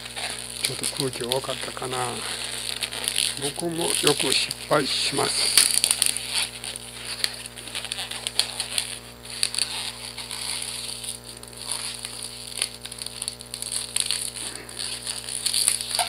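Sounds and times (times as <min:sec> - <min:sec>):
balloon latex rubbing: 0:00.0 - 0:16.0.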